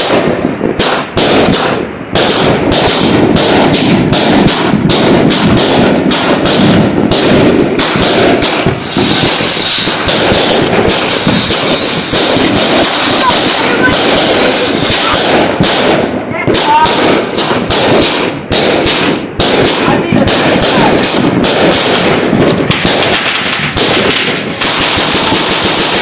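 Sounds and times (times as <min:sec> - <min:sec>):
firework barrage of bangs: 0:00.0 - 0:26.0.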